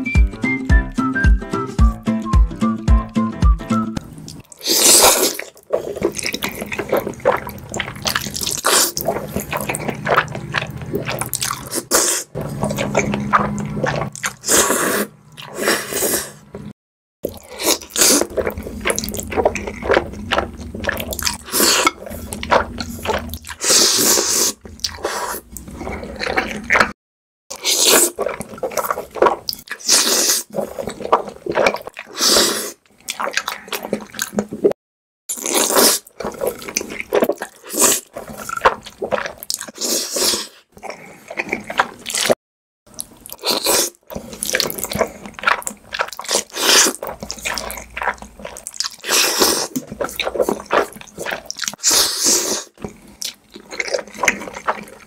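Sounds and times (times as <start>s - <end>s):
wet chewing: 4.0s - 55.0s
person slurping noodles: 4.5s - 16.6s, 17.3s - 34.7s, 35.3s - 42.4s, 43.3s - 55.0s.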